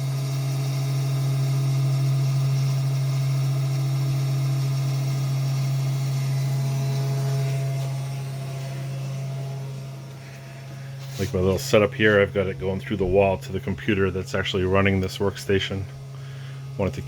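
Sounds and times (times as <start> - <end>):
router motor humming: 0.0 - 17.0.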